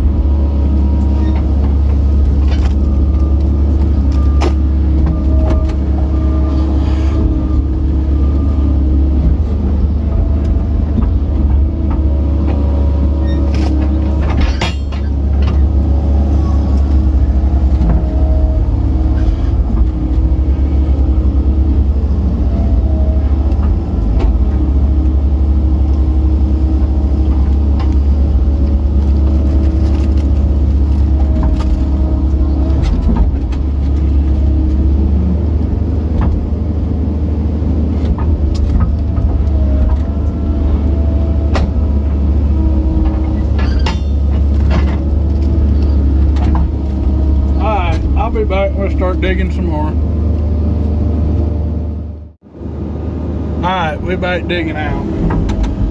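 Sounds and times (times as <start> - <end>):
excavator running under load: 0.0 - 55.9.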